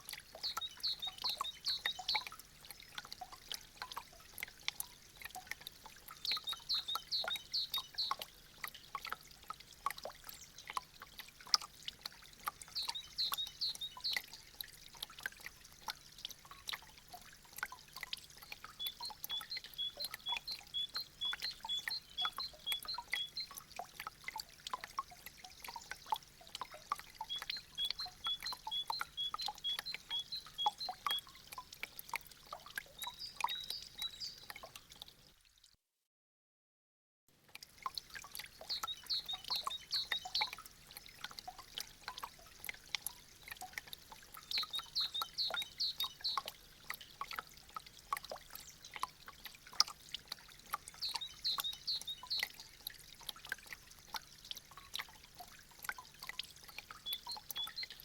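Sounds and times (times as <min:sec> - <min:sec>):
meltwater dripping: 0:00.0 - 0:35.5, 0:37.4 - 0:58.0.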